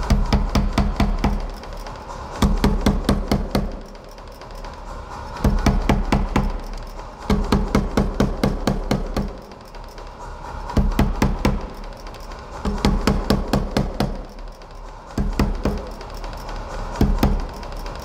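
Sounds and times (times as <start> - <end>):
power hammer pounding steel: 0.0 - 18.0.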